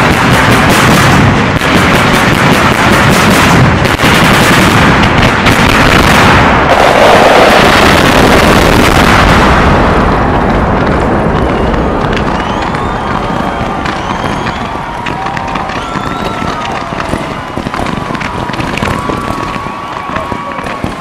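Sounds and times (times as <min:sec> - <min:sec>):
fireworks exploding: 0:00.0 - 0:21.0.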